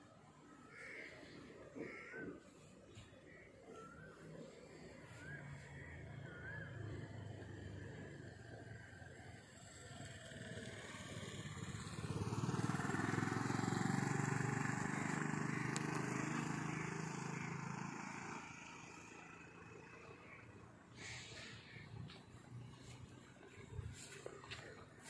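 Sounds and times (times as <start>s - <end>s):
motor scooter passing: 0.2s - 25.0s.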